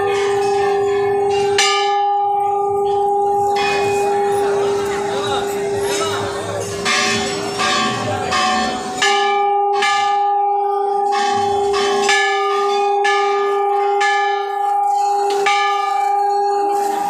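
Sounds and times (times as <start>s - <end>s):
temple bell ringing: 0.0s - 17.0s.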